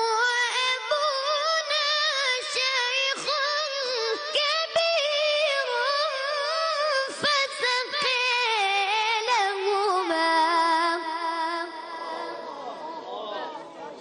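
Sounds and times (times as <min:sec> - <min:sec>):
child chanting: 0:00.0 - 0:14.0.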